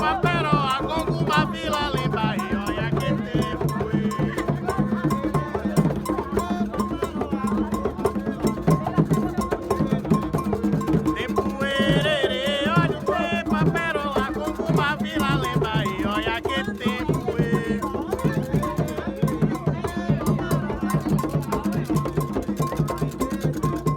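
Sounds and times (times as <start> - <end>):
hand drums: 0.0 - 23.9
voices singing: 0.0 - 23.9.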